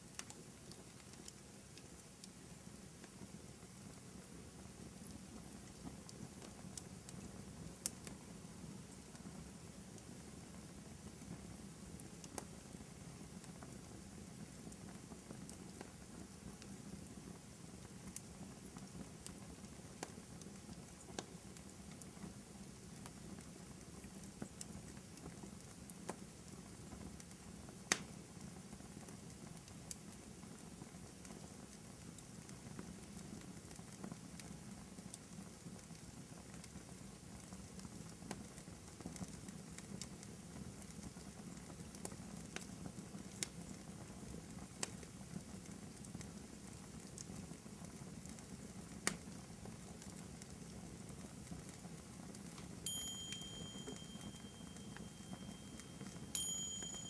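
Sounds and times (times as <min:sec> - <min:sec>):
fire crackles and pops: 0:00.0 - 0:57.0
wood fire hissing: 0:00.1 - 0:53.0.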